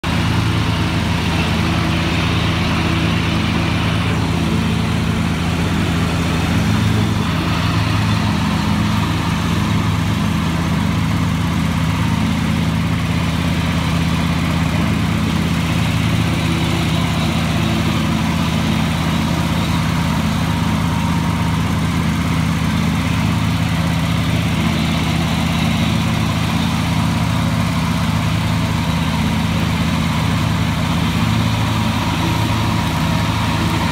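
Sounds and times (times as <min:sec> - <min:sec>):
riding mower engine humming: 0:00.0 - 0:33.9.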